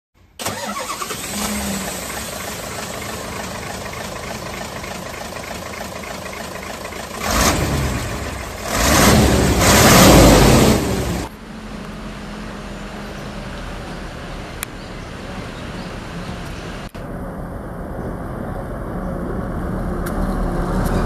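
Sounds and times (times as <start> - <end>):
truck engine idling: 0.4 - 21.0
truck engine surging: 0.4 - 21.0.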